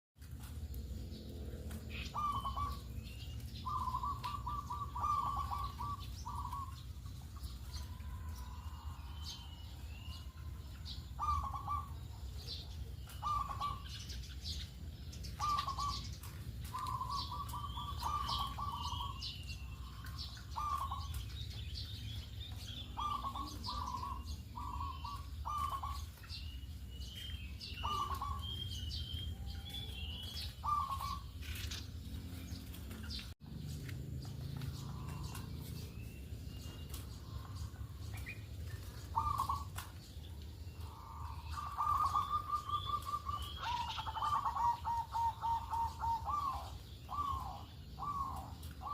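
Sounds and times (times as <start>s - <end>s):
small birds chirping: 0.2s - 48.9s
dove cooing: 1.9s - 14.6s, 15.2s - 33.2s, 36.6s - 40.0s, 40.8s - 48.9s.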